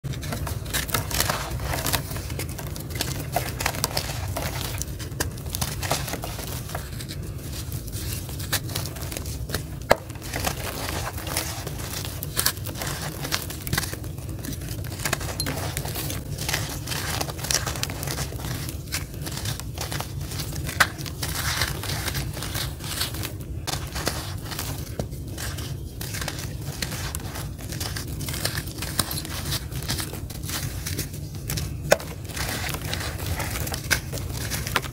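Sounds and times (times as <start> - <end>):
charcoal crunching and crackling: 0.0 - 34.9
charcoal snapping: 0.0 - 34.9.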